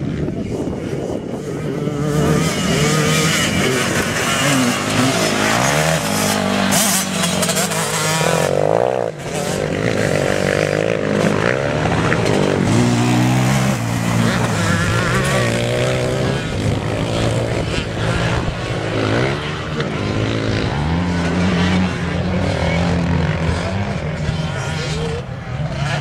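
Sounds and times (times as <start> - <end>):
quad bike engines revving: 0.0 - 26.0.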